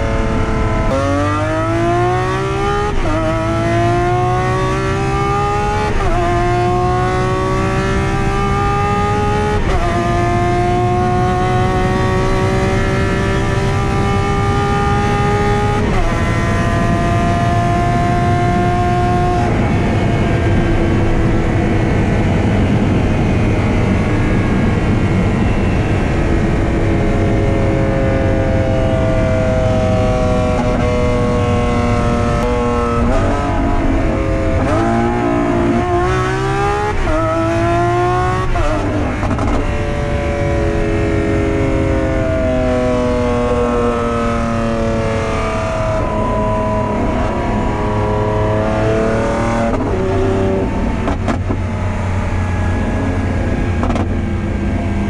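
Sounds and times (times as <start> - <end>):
car engine revving at speed: 0.0 - 55.0.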